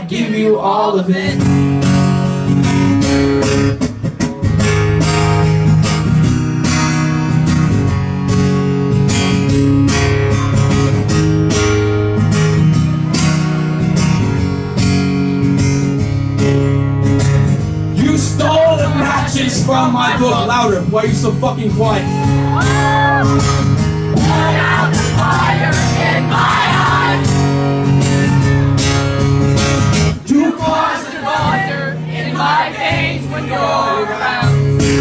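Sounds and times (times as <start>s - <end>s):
acoustic guitar strummed hard: 0.0s - 35.0s.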